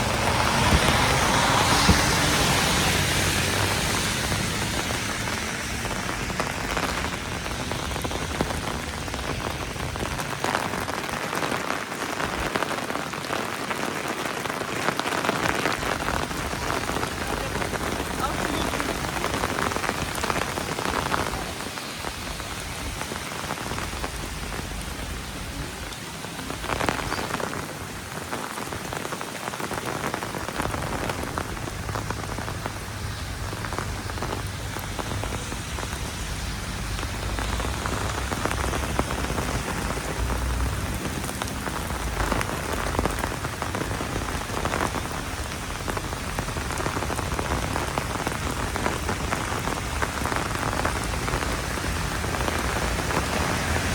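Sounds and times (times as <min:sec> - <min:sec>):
heavy rain pattering: 0:00.0 - 0:53.9.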